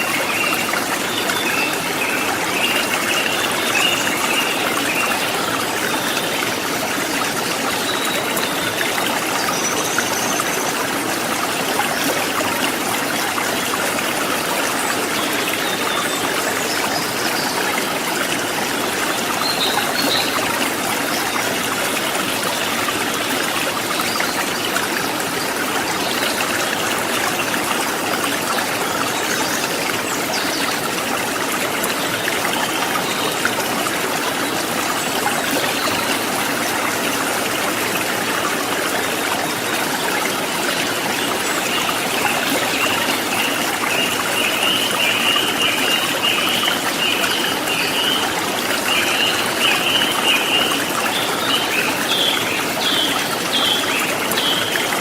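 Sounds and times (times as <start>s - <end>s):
river running over rocks: 0.0s - 55.0s.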